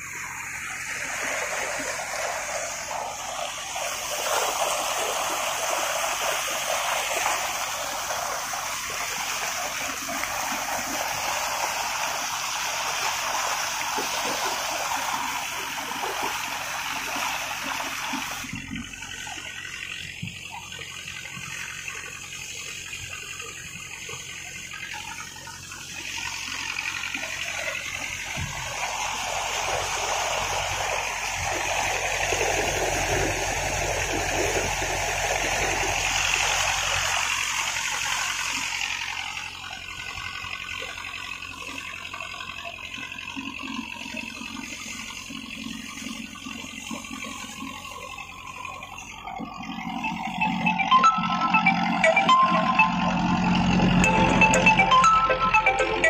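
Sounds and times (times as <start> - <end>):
water splashing along boat hull: 0.0 - 55.8
boat engine humming: 0.0 - 56.0.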